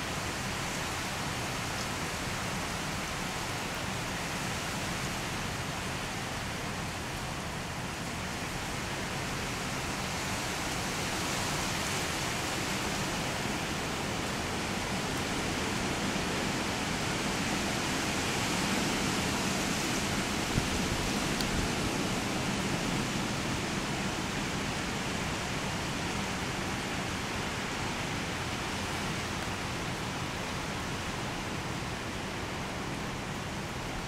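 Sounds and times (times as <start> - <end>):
wind rushing through pine trees: 0.0 - 34.0.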